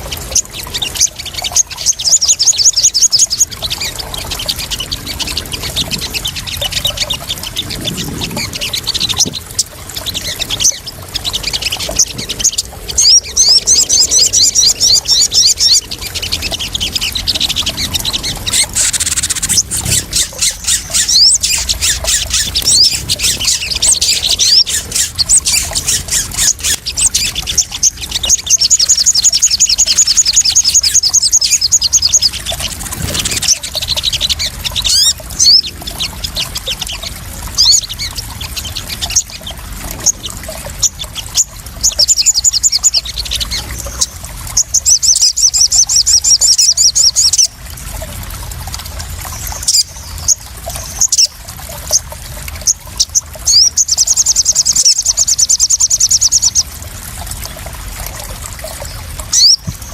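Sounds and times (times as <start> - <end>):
birds chipping and trilling: 0.0 - 59.9
water trickling and splashing: 0.0 - 59.9.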